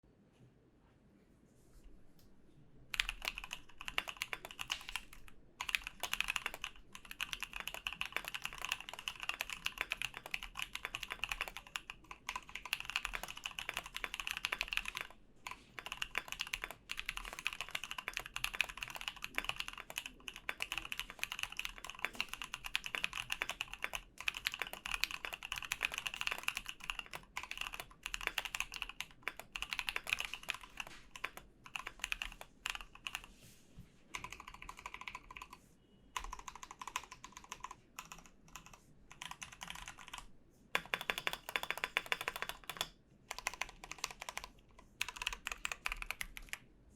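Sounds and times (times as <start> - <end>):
fast typing on mechanical keyboard: 2.9 - 33.3, 34.1 - 35.6, 36.2 - 46.6.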